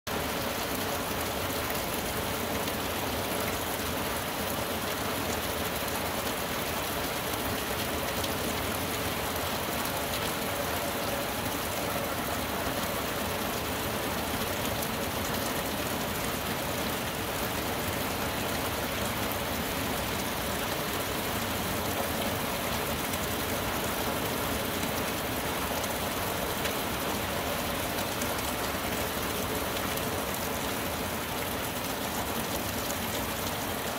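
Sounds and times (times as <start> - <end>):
rain falling on forest foliage: 0.1 - 33.9.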